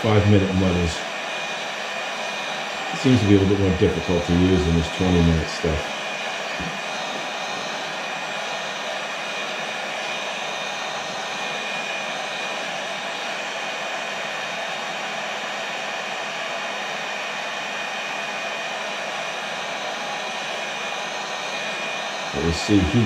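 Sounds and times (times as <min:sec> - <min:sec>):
heat gun blowing air: 0:00.0 - 0:23.0.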